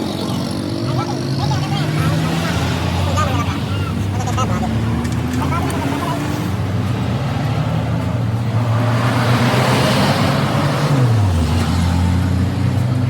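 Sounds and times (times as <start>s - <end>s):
engine running: 0.0s - 13.0s
vehicle passing: 0.0s - 13.0s.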